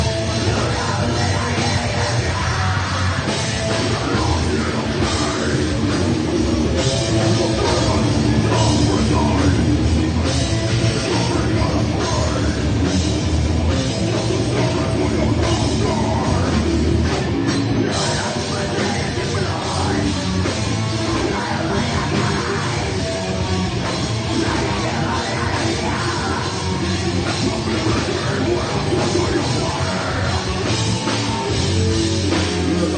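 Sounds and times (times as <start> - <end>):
drum kit pounding: 0.0 - 32.9
heavy metal band playing live: 0.0 - 32.9.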